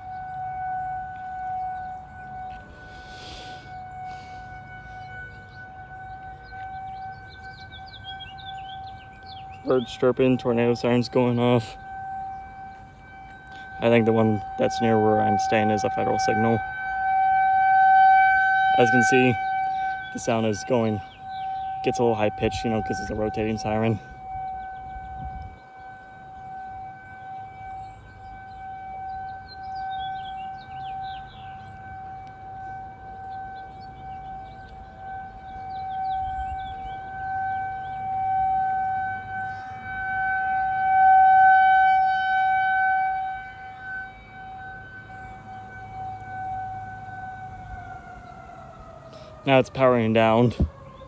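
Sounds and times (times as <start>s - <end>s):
faint birds chirping: 0.0s - 40.8s, 43.2s - 51.0s
distant rotating siren wailing: 0.0s - 51.0s.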